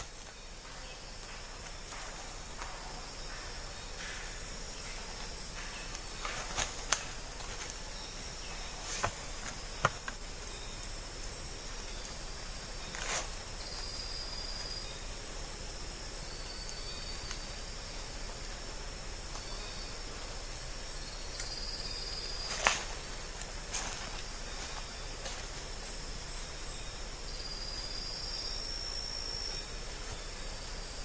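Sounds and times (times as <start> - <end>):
insect chorus: 0.0 - 31.0
thin insect trill: 0.0 - 31.0.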